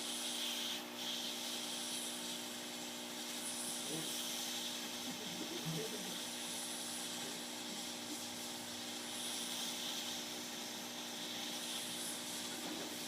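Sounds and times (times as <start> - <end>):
hot air gun blowing: 0.0 - 13.0.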